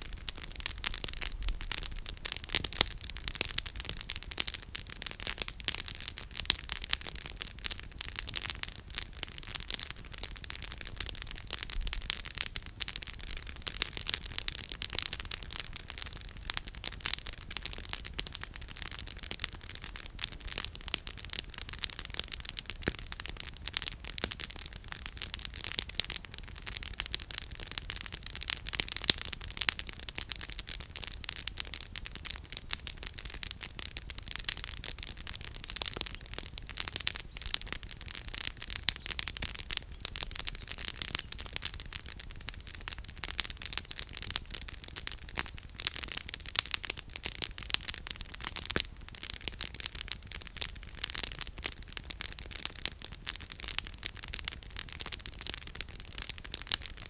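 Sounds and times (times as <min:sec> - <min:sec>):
campfire crackling and popping: 0:00.0 - 0:57.0
faint low fire rumble: 0:00.0 - 0:57.0.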